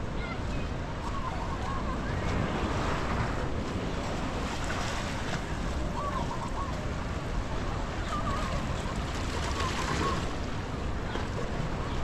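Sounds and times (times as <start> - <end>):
surf washing on beach: 0.0 - 12.0
wind rumbling on microphone: 0.0 - 12.0.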